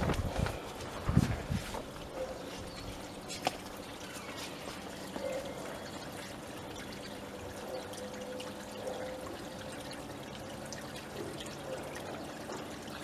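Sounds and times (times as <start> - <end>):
water running from hose: 0.0 - 13.0.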